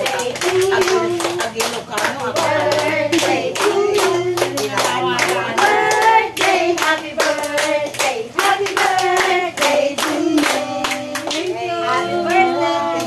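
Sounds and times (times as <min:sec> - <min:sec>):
people clapping along: 0:00.0 - 0:13.0
women singing together: 0:00.0 - 0:13.0.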